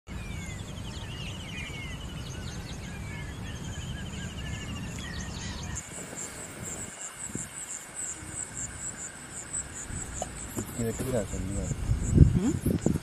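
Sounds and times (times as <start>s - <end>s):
birds singing: 0.1s - 13.0s
insect chirring: 0.5s - 13.0s.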